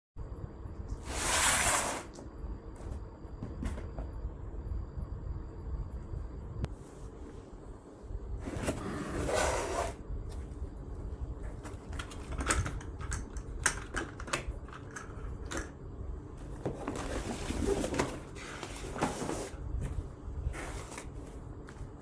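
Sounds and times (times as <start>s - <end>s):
low steady rumble: 0.2s - 22.0s.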